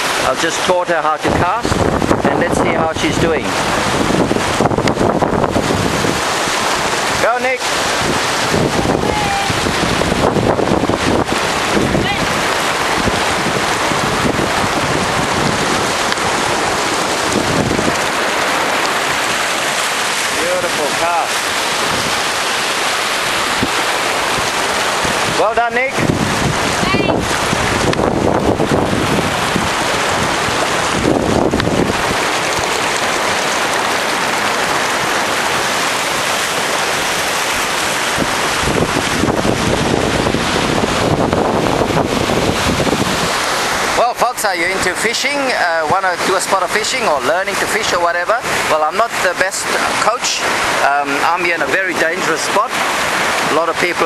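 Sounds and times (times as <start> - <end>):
surf on rocks: 0.0 - 54.0
wind buffeting microphone: 0.0 - 54.0.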